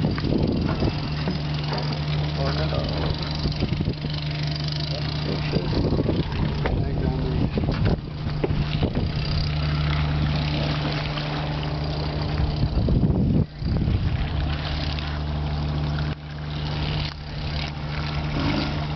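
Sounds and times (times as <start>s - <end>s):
ship engine humming: 0.0s - 18.9s
wind and water rushing: 0.0s - 18.9s.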